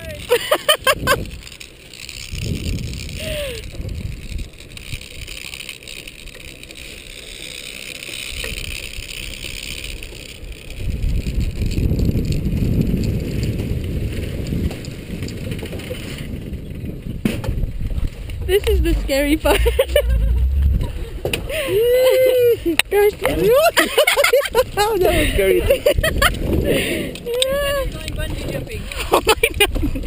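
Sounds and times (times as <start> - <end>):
wind buffeting microphone: 0.0 - 5.4, 8.3 - 30.0.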